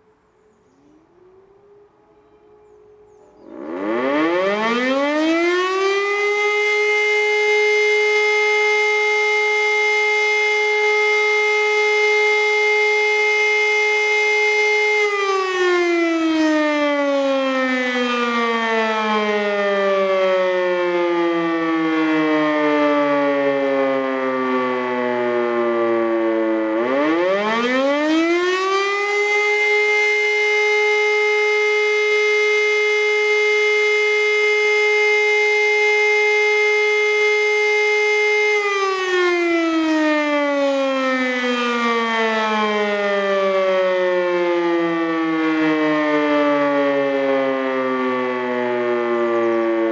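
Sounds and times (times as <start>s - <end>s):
electric motor siren: 0.0s - 49.9s.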